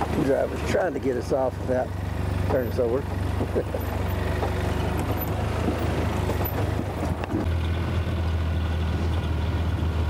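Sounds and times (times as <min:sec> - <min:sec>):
vehicle engine running low: 0:00.0 - 0:10.0.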